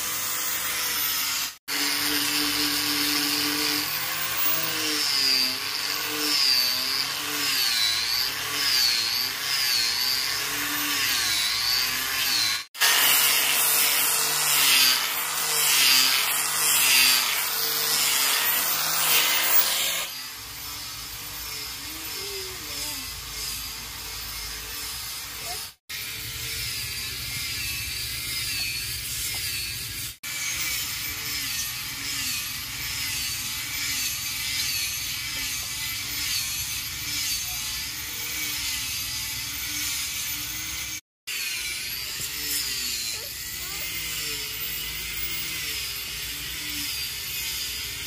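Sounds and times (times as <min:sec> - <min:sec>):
power tool cutting wood: 0:00.0 - 0:48.0.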